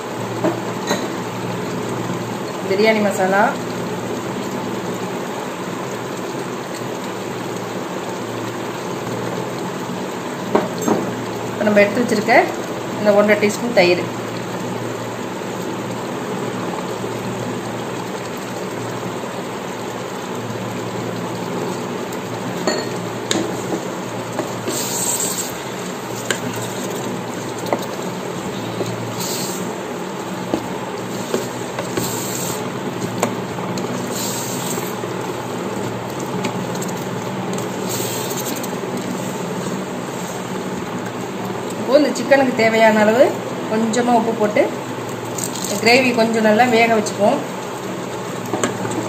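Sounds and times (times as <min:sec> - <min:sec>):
sizzling bubbling hiss: 0:00.0 - 0:49.0.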